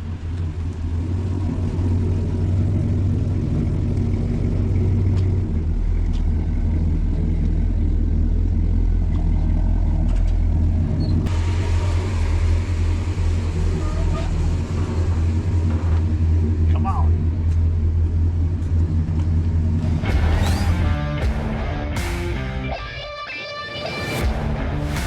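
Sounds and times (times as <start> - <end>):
low engine rumble: 0.0 - 23.1, 23.8 - 25.0.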